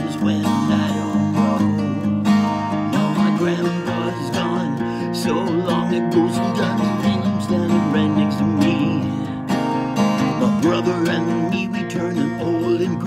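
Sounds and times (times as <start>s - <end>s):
person singing wordlessly: 0.0s - 9.4s, 10.0s - 13.0s
acoustic guitar strumming: 0.0s - 13.0s.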